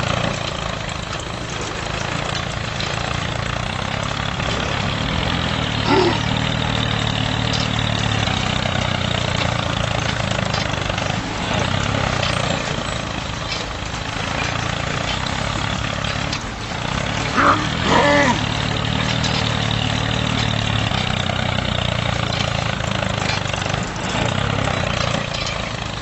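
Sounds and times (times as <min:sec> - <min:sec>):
small motor running: 0:00.0 - 0:26.0.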